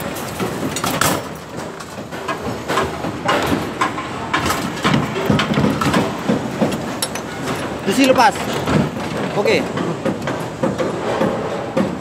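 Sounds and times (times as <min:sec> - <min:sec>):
rebar and formwork clattering: 0:00.0 - 0:12.0.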